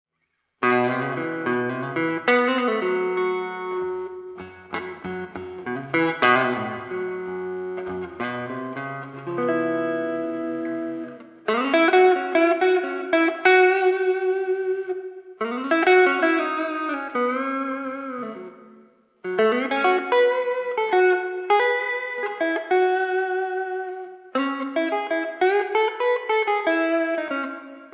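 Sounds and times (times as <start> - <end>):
electric guitar blues licks: 0.6 - 27.9.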